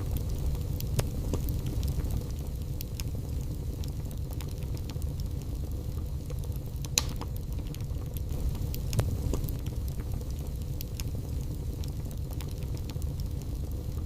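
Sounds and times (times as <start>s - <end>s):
sharp fire pops: 0.0s - 14.0s
wood fire crackling: 0.0s - 14.0s.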